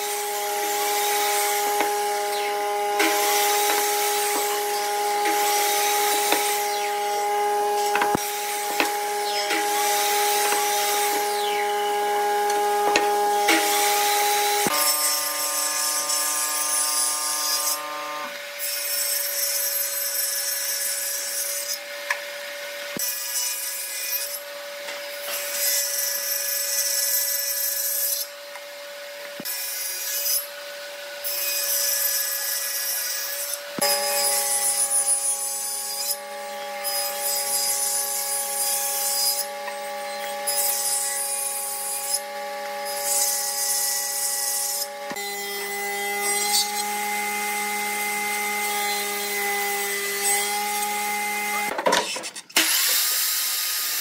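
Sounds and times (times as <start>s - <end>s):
table saw cutting wood: 0.0s - 54.0s.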